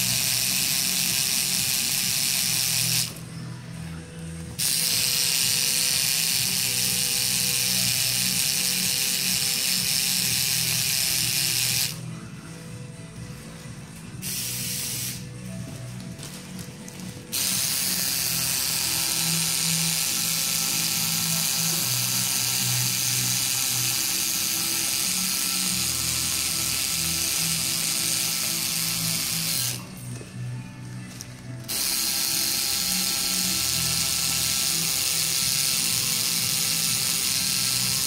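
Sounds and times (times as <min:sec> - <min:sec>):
tattoo machine buzzing: 0:00.0 - 0:03.3, 0:04.6 - 0:12.2, 0:14.2 - 0:15.6, 0:17.3 - 0:30.0, 0:31.1 - 0:38.0
background music: 0:00.0 - 0:38.0.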